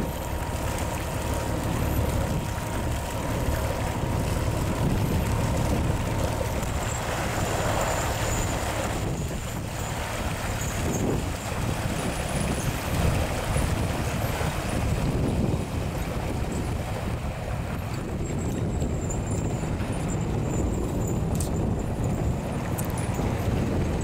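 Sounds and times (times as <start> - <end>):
boat diesel engine running: 0.0 - 24.0
propeller churning water: 0.0 - 24.0
wind buffeting microphone: 0.0 - 24.0.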